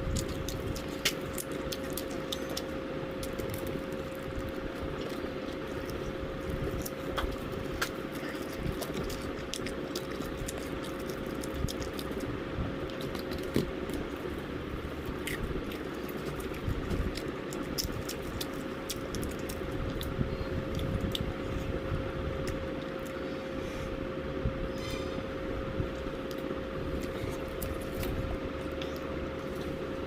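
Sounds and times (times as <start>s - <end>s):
person chewing fried chicken: 0.0s - 23.4s, 25.9s - 30.0s
steady hum: 0.0s - 30.0s.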